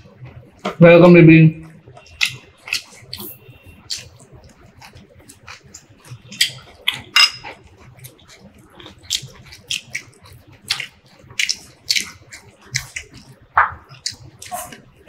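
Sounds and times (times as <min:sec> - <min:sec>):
chewing and lip smacking: 0:01.6 - 0:15.0.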